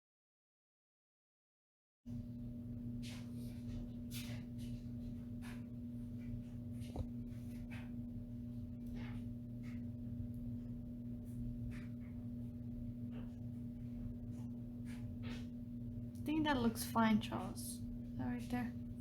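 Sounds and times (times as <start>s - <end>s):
low electrical hum: 2.1s - 19.0s.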